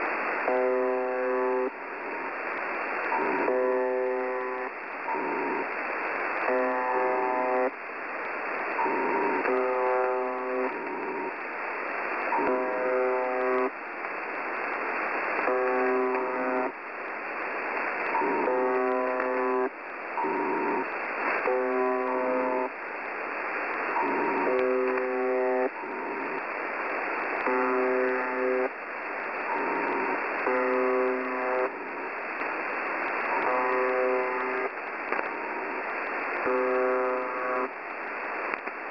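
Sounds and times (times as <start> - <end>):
harsh radio buzz: 0.0 - 7.8, 8.5 - 22.8, 23.4 - 38.9
radio static: 0.0 - 38.9.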